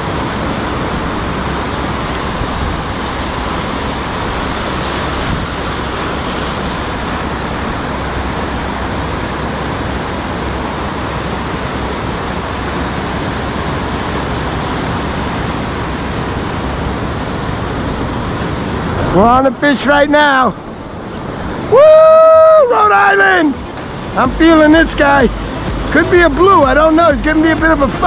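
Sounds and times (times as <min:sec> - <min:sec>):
surf breaking on rocky shore: 0:00.0 - 0:28.0
wind on microphone: 0:00.0 - 0:28.0.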